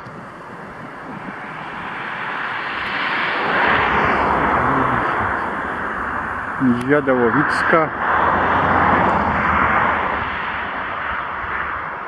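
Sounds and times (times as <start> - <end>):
distant freight train rumbling: 0.0 - 11.8.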